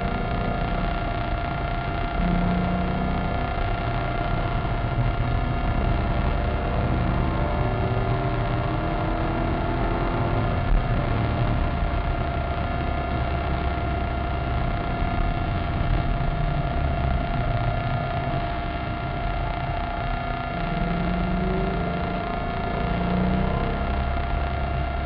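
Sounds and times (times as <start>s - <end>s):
car engine from inside cabin: 0.0s - 25.0s
road noise: 0.0s - 25.0s.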